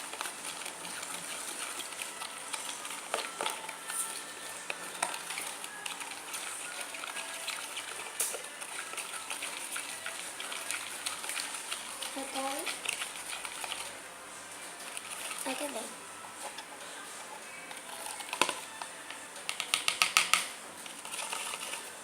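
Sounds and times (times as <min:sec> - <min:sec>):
small clicks and wet scraping: 0:00.0 - 0:14.0, 0:14.6 - 0:22.0
spoon stirring slime: 0:00.0 - 0:22.0.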